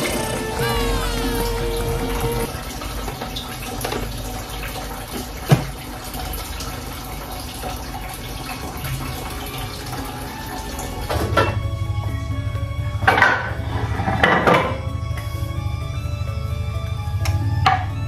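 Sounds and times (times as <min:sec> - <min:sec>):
running tap water splashing: 0:00.0 - 0:15.5.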